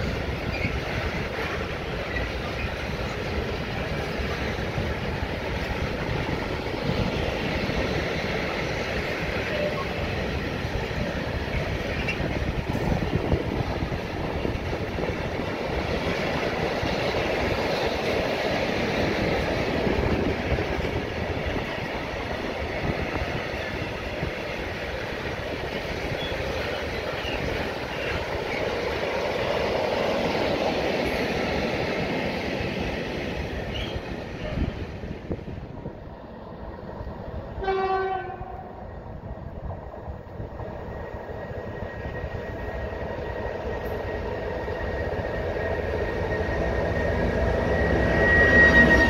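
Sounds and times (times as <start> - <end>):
train wheels on rails: 0.0 - 49.0.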